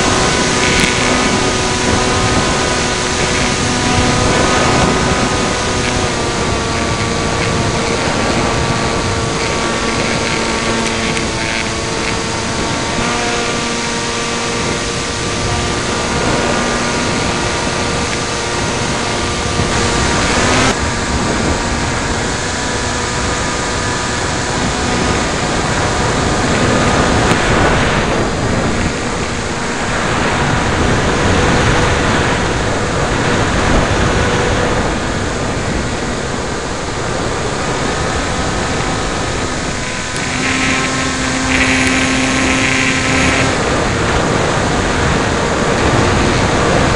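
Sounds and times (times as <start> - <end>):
electric motor and propeller whine: 0.0 - 46.9
wind buffeting microphone: 0.0 - 46.9.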